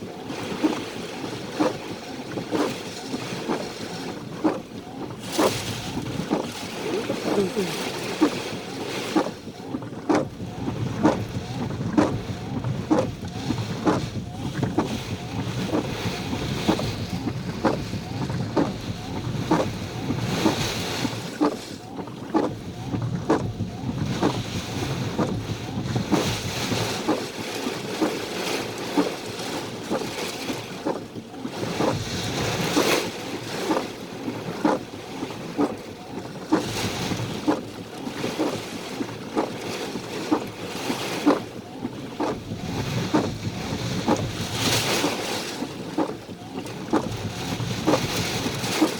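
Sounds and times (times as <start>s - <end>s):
storm wind buffeting microphone: 0.3s - 48.9s
short knocks and patters: 0.5s - 48.9s.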